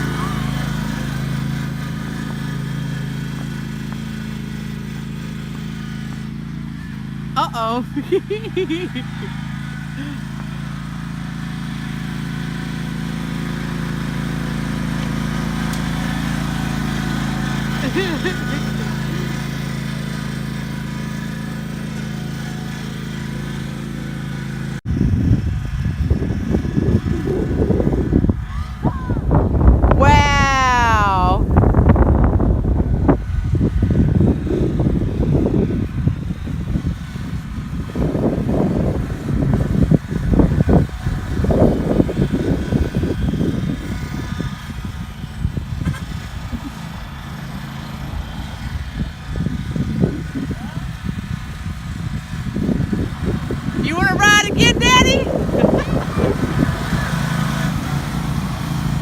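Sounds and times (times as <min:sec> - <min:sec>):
lawnmower engine running: 0:00.0 - 0:59.0.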